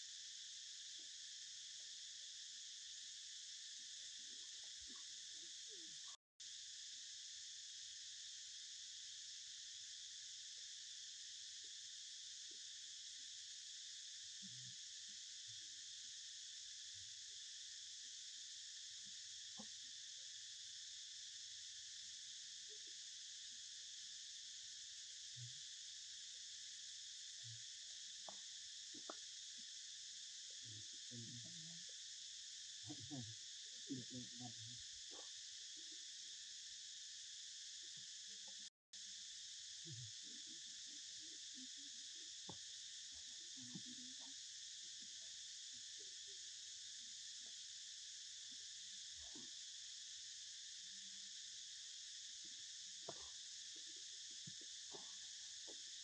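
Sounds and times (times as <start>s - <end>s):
faint high-pitched insect chorus: 0.0s - 56.0s
small ticks: 0.4s - 6.6s, 9.8s - 56.0s.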